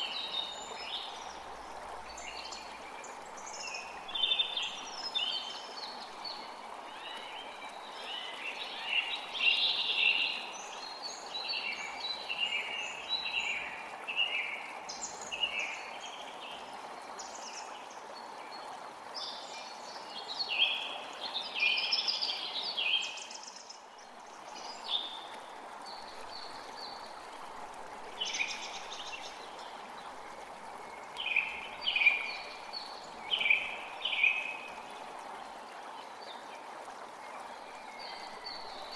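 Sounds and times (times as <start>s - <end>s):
creek running: 0.0s - 38.9s
songbirds chirping: 0.0s - 38.9s.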